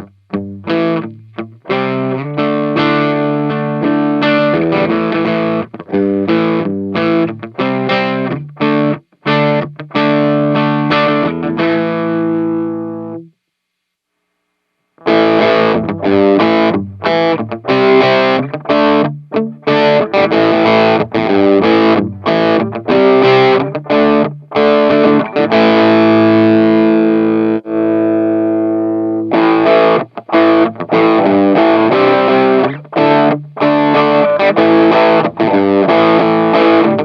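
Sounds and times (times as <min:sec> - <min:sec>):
distorted electric guitar chords: 0:00.0 - 0:13.3, 0:15.0 - 0:37.0.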